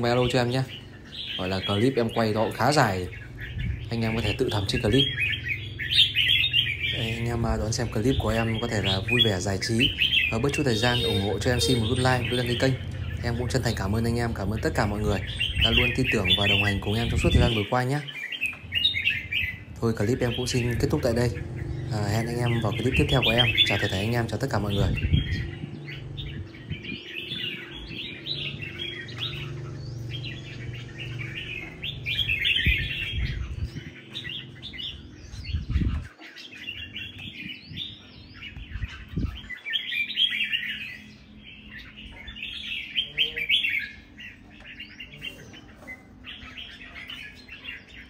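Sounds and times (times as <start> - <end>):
bird singing chirpy warbles: 0.0 - 48.0.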